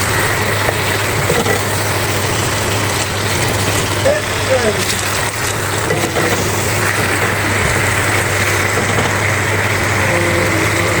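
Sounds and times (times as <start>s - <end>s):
low hum: 0.0s - 11.0s
mechanical drone: 0.0s - 11.0s.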